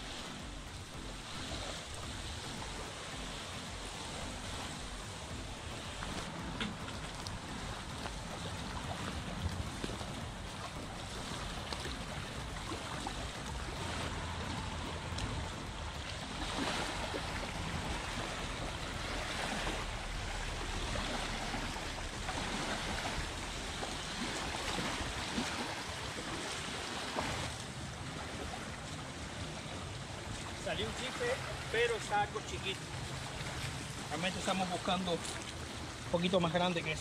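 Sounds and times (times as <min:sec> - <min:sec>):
wind rumbling on microphone: 0:00.0 - 0:30.6
small waves lapping on shore: 0:00.0 - 0:37.0.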